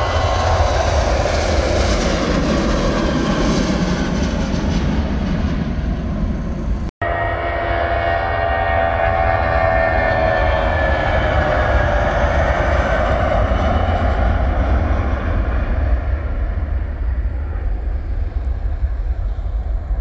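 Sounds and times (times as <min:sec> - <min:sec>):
jet airliner taking off: 0:00.0 - 0:20.0.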